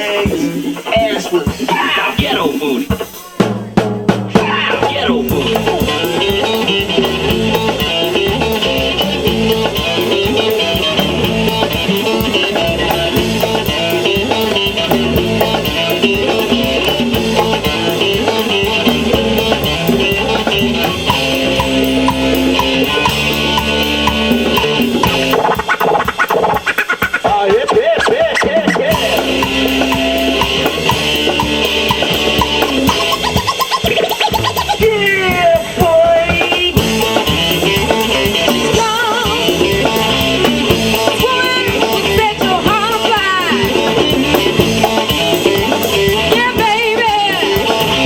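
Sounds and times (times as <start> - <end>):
bass and guitar lines: 0.0 - 48.0
drum kit steady beat: 0.0 - 48.0.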